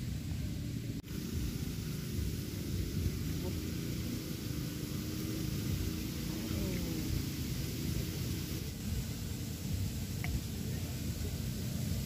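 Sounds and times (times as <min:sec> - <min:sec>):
hiss: 0:00.0 - 0:12.0
low rumble: 0:00.0 - 0:12.0.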